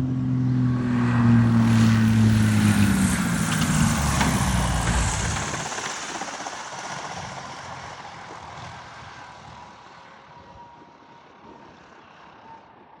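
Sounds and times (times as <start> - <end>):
propeller plane engine: 0.0 - 12.4.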